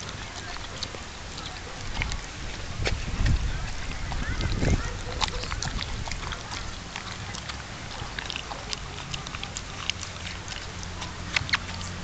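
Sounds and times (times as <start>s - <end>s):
dog lapping water: 0.0s - 12.0s.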